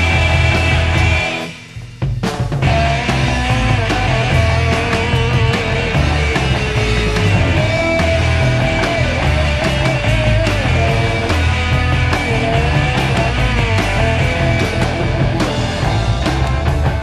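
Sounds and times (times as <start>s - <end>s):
punk rock band from a record: 0.0s - 17.0s.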